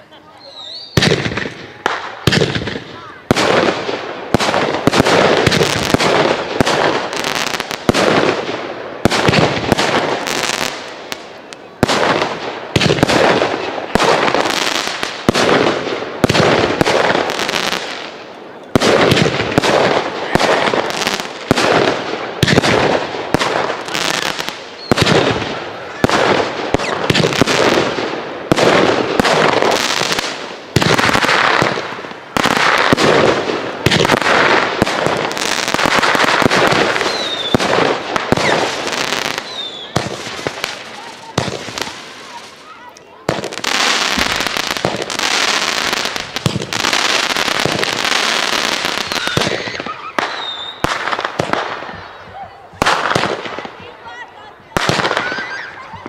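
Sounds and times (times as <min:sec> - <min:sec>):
firework crackle: 0:00.0 - 0:54.0, 0:54.7 - 0:56.0.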